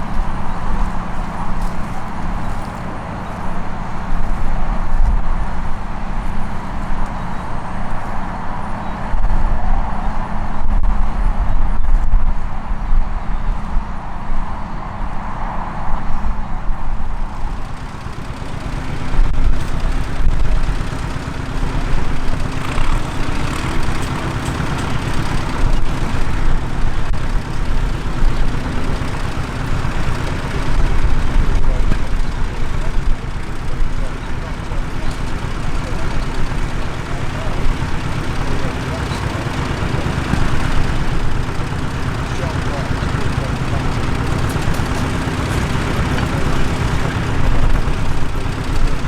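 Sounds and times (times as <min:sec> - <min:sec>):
higher engine note: 0:00.0 - 0:49.0
tractor engine running: 0:00.0 - 0:49.0.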